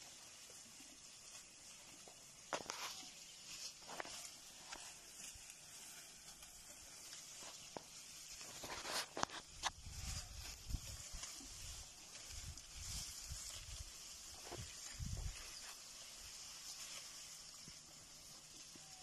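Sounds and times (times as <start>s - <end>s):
brush rustling: 0.0s - 19.0s.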